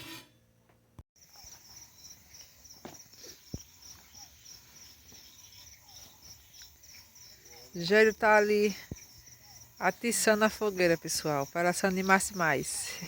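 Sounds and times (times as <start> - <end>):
crickets chirping: 1.2 - 13.0.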